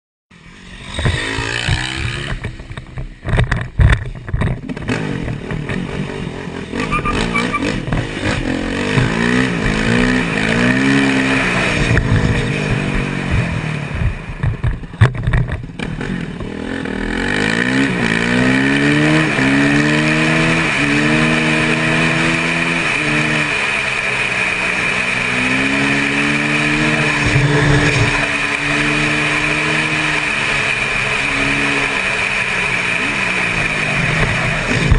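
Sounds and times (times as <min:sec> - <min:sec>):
road noise: 0:00.3 - 0:34.9
vehicle engine accelerating: 0:04.6 - 0:34.9.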